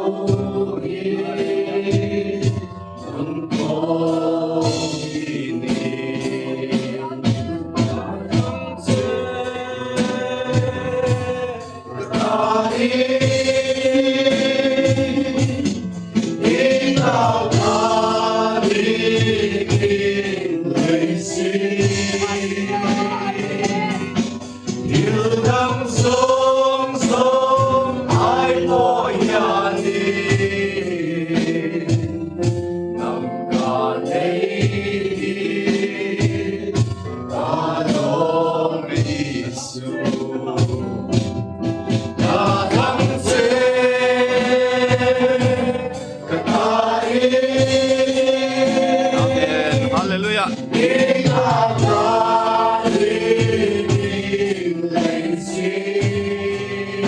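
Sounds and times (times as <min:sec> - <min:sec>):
gospel choir singing: 0:00.0 - 0:57.0.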